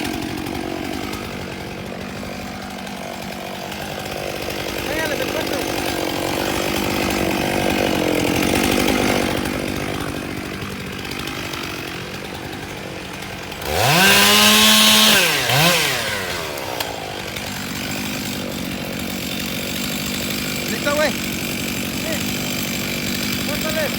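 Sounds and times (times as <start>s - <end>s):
chainsaw revving: 0.0s - 23.9s.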